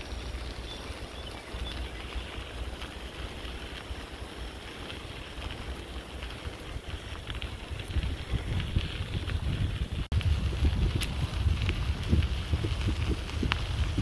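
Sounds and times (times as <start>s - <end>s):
bicycle tyres rolling over gravel: 0.0s - 14.0s
wind rumbling on microphone: 0.0s - 14.0s.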